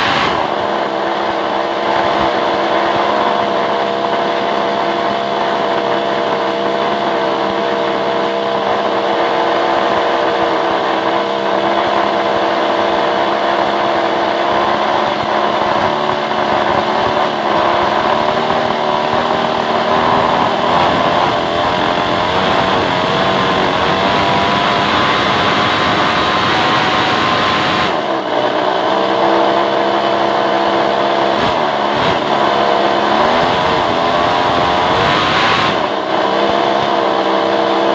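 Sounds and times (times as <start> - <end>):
chainsaw engine running: 0.0 - 37.9.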